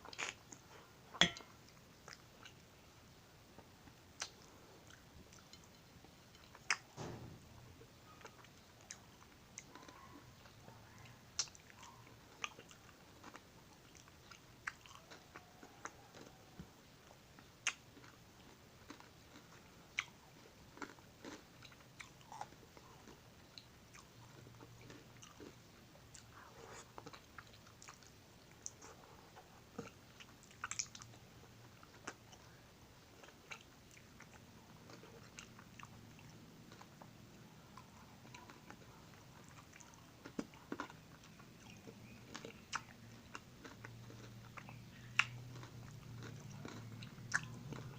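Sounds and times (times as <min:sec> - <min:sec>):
chewing ice cream bar: 0:03.5 - 0:06.9, 0:07.8 - 0:47.9.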